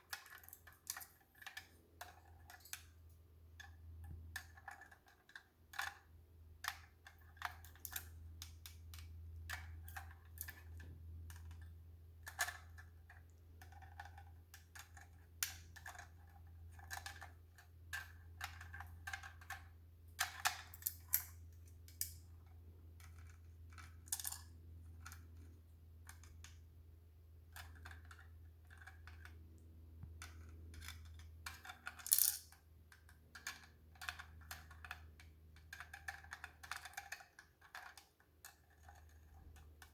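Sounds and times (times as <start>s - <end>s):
toy pieces clicking and clacking: 0.0s - 22.2s, 23.0s - 26.6s, 27.5s - 29.4s, 30.2s - 39.9s
low steady hum: 0.0s - 37.4s.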